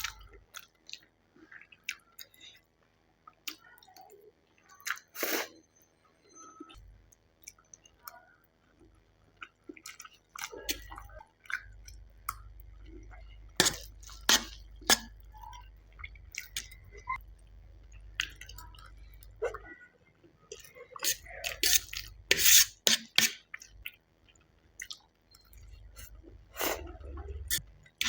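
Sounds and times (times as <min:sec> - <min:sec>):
person chewing noodles: 0:00.0 - 0:05.6, 0:06.7 - 0:19.8, 0:20.5 - 0:28.0.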